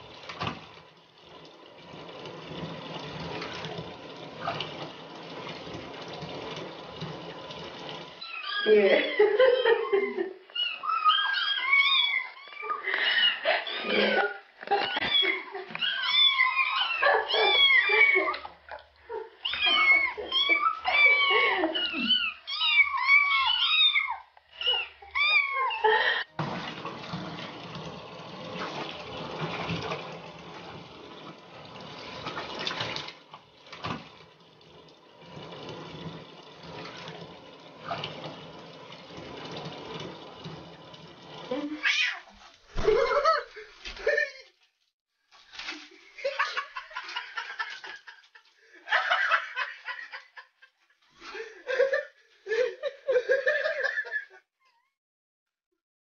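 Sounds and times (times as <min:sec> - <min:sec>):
water rushing in a bathtub: 0:00.0 - 0:10.2, 0:10.8 - 0:50.1.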